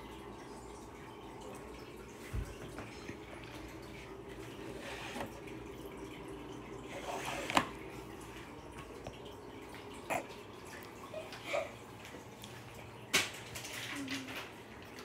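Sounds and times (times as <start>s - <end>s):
aquarium filter water trickling: 0.0s - 15.0s.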